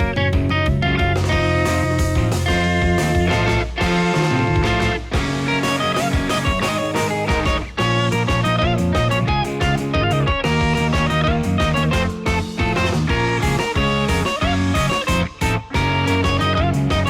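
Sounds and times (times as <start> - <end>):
bass and drums: 0.0 - 17.0
electric guitar instrumental: 0.0 - 17.0.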